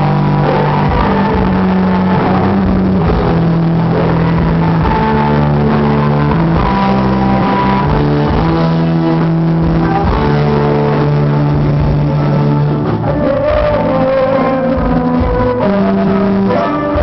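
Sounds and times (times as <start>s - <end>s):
electric guitar sustained notes: 0.0s - 17.0s
live rock band playing: 0.0s - 17.0s.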